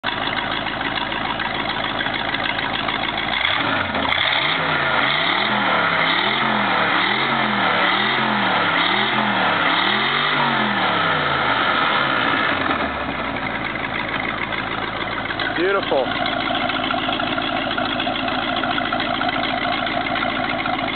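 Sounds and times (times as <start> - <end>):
boat engine idling and revving: 0.0 - 20.9.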